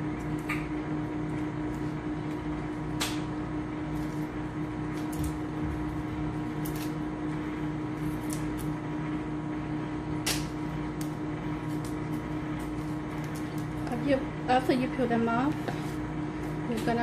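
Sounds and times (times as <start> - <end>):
appliance hum: 0.0 - 17.0.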